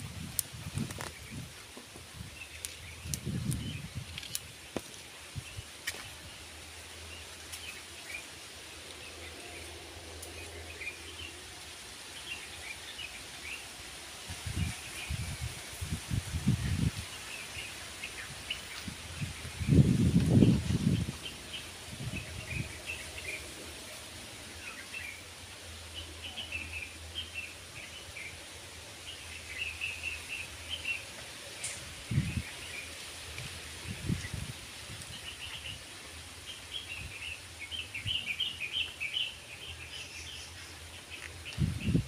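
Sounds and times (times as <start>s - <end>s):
outdoor hiss: 0.0s - 42.0s
small birds chirping: 0.2s - 11.4s, 14.4s - 42.0s.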